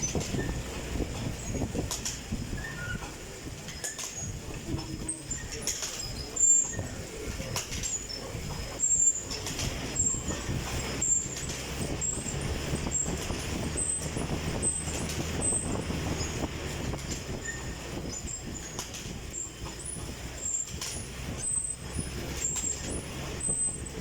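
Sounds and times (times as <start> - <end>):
exercise bike whirring hum: 0.0 - 24.0.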